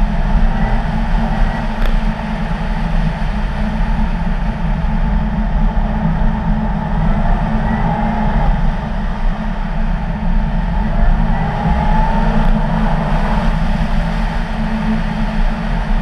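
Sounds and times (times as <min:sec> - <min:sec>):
car engine and tyre noise: 0:00.0 - 0:16.0
heavy uneven rumble: 0:00.0 - 0:16.0.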